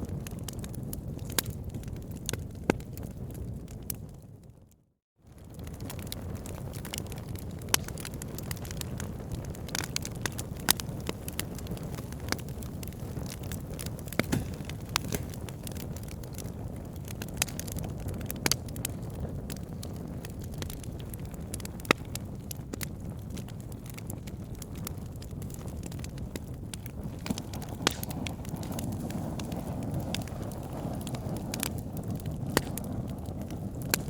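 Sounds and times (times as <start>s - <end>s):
fire low rumble: 0.0s - 4.7s, 5.3s - 34.0s
burning logs crackling and popping: 0.0s - 34.0s.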